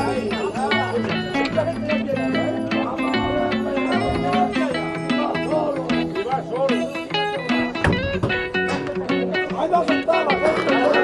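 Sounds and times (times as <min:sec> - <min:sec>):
plucked guitar: 0:00.0 - 0:11.0.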